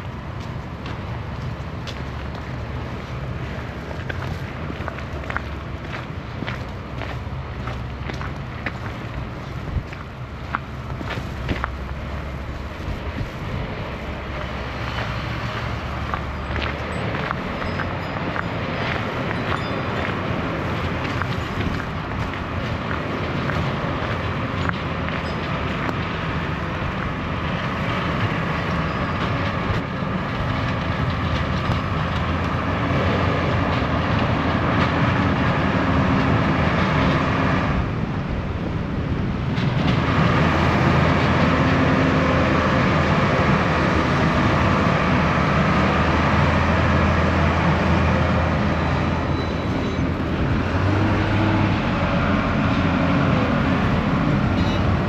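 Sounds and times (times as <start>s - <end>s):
large vehicle rumbling: 0.0s - 55.0s.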